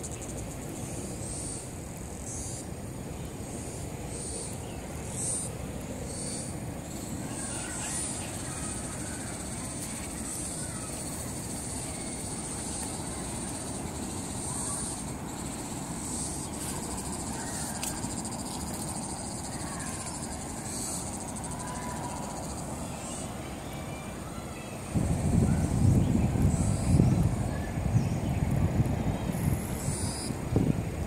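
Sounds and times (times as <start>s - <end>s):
insects trilling: 0.0s - 30.8s.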